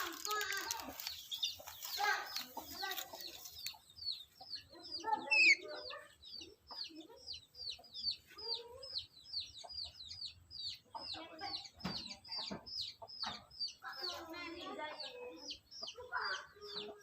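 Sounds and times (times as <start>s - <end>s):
bird chirping: 0.0s - 17.0s
rough chattering bird calls: 0.0s - 17.0s.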